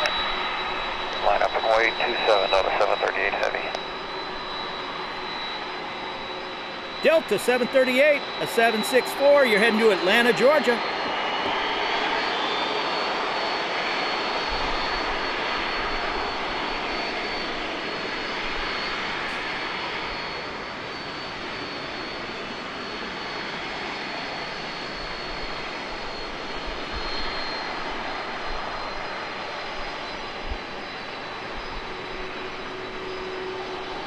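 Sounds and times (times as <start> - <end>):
jet engines rushing and whining: 0.0 - 34.0.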